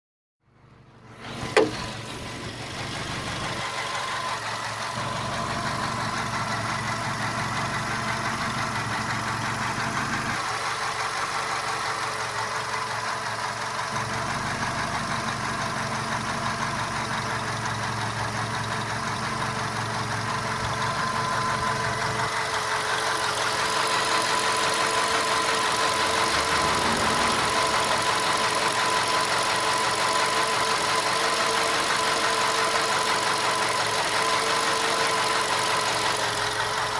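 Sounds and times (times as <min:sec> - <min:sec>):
car engine idling with knocking: 0:00.5 - 0:36.9.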